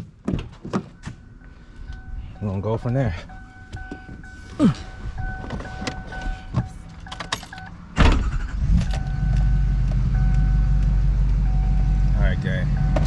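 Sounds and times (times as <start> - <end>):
diesel engine starting and idling: 1.2 - 13.0.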